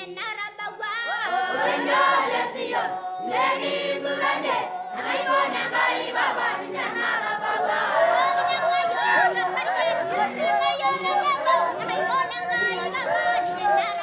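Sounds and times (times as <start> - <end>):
choir singing: 1.1 - 14.0.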